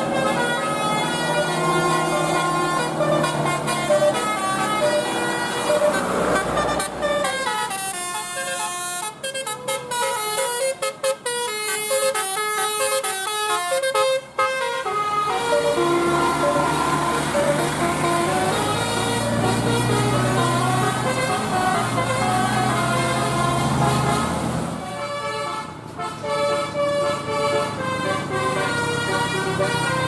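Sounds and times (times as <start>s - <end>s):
musical bus horn tune: 0.0s - 30.0s.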